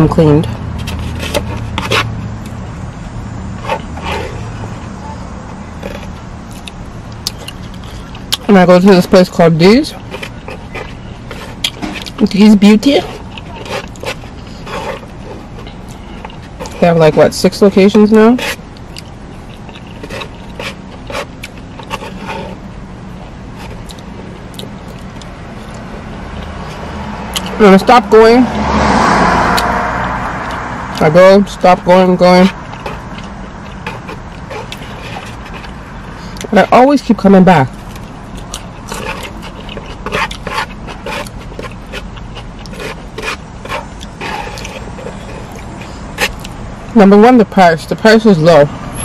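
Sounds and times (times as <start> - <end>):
chewing and mouth sounds: 0.4 - 8.6, 9.9 - 16.8, 17.8 - 27.6, 29.4 - 31.0, 32.4 - 36.6, 37.7 - 46.7.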